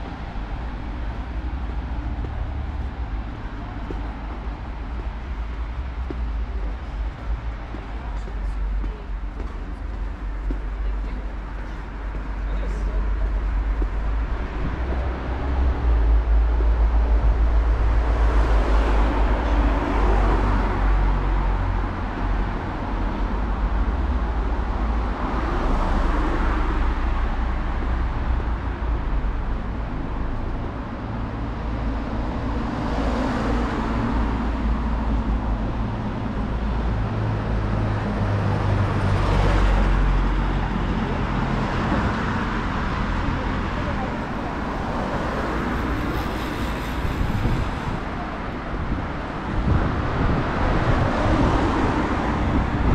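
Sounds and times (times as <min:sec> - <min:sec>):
steady low rumble: 0:00.0 - 0:25.7, 0:33.5 - 0:52.9
vehicles driving past: 0:00.0 - 0:52.9.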